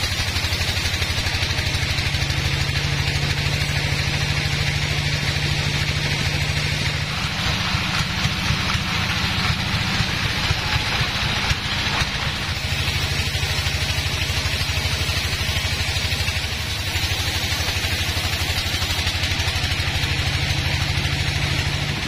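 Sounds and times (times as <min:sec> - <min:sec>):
saw blade hissing in wood: 0:00.0 - 0:20.9
band saw low throbbing drone: 0:00.0 - 0:22.0.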